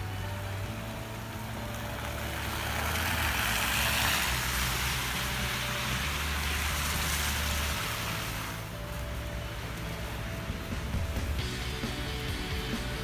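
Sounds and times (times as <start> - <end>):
snowplow engine droning: 0.0 - 13.0.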